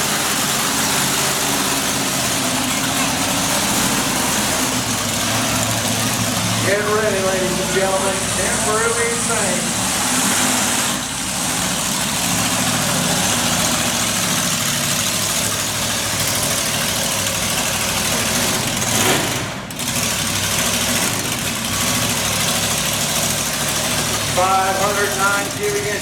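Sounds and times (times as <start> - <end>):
loud racing engine running: 0.0 - 26.0.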